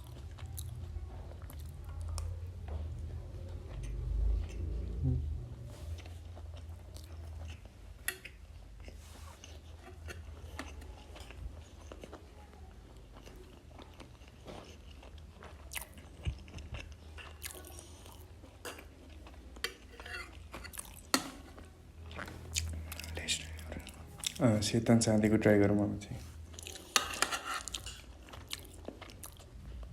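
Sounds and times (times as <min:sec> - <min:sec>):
chewing and mouth sounds: 0:00.0 - 0:05.0, 0:05.8 - 0:24.7, 0:26.3 - 0:29.9.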